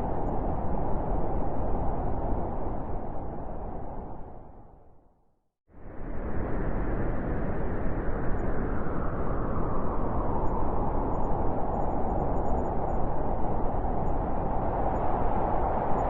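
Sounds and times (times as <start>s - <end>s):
blizzard wind blowing hard: 0.0s - 5.0s, 5.7s - 16.0s.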